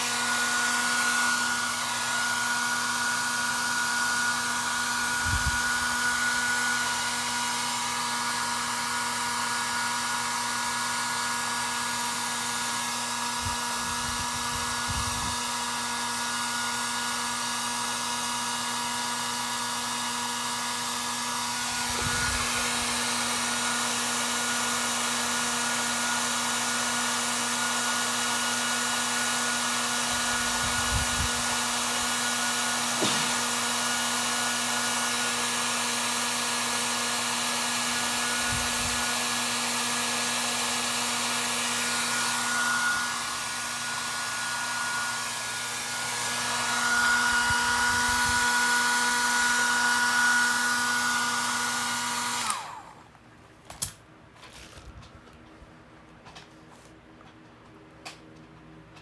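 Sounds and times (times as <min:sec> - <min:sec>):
hot-air dryer blowing: 0:00.0 - 0:53.1.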